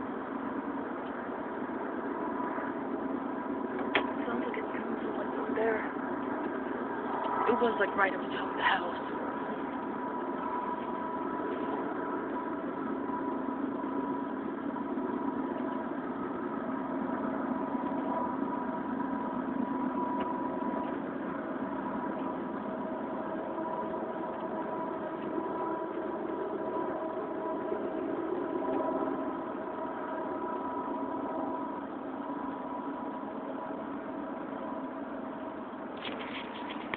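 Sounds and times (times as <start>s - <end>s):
droning hum with held tones: 0.0s - 36.9s.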